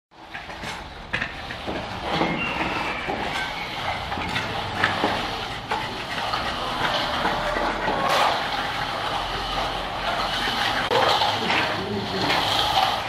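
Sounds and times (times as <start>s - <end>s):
shovel scraping mortar: 0.2s - 13.0s.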